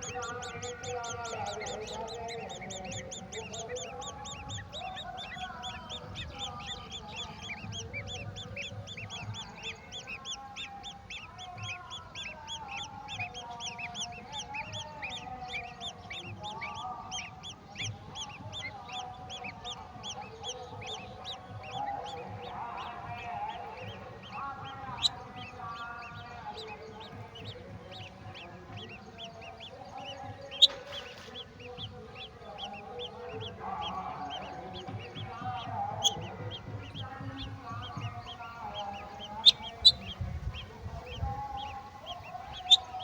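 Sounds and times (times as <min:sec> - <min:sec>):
lower nasal wavering calls: 0:00.0 - 0:43.0
nestlings chirping rapidly: 0:00.0 - 0:43.0.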